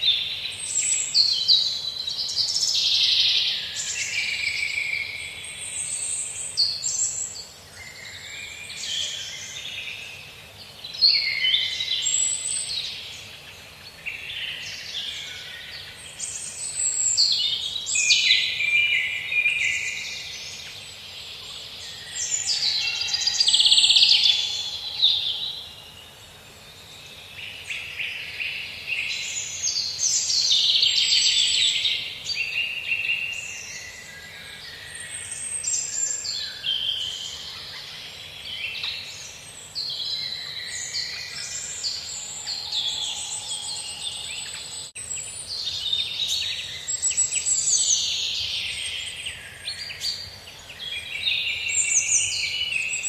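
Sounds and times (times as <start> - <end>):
faint steady hiss: 0.0 - 53.0
songbirds chirping and twittering: 0.0 - 53.0.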